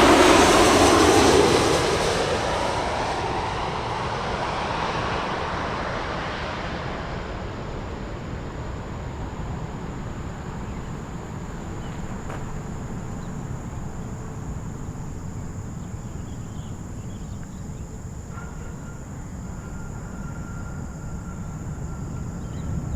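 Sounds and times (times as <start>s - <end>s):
jet airliner noise: 0.0s - 22.9s.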